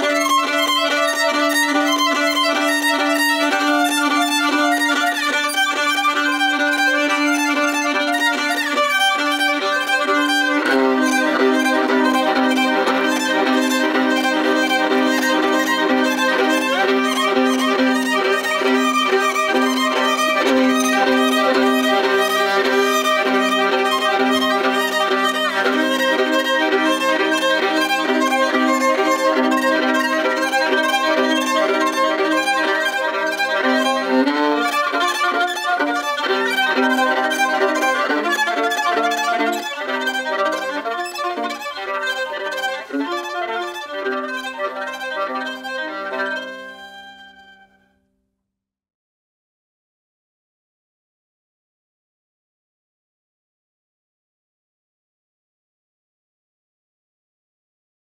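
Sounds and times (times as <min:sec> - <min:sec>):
solo bowed violin melody: 0:00.0 - 0:48.1.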